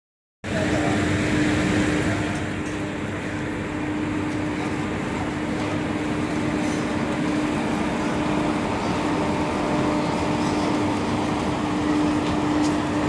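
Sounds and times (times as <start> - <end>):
electric locomotive passing: 0.5 - 13.0.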